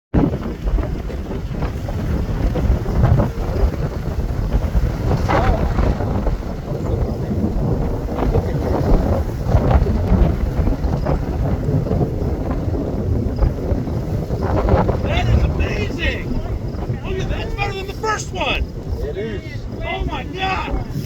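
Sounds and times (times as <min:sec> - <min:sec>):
gusty wind buffeting microphone: 0:00.1 - 0:21.0.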